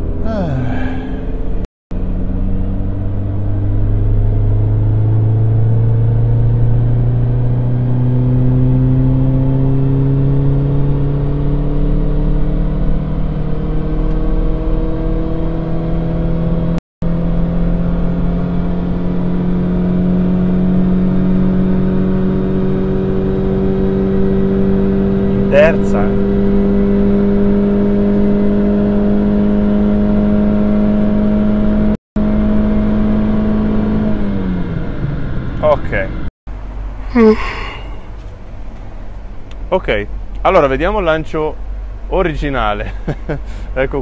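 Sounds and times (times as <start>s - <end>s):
car engine revving at full throttle: 0.0s - 36.3s, 39.5s - 44.0s.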